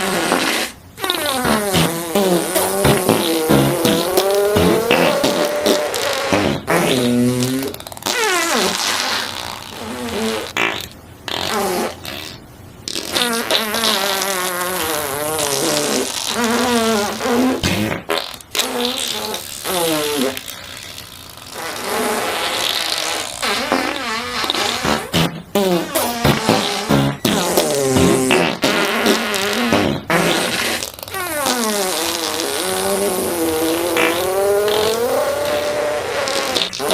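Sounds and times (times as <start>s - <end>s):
fart sound effects: 0.0s - 36.9s.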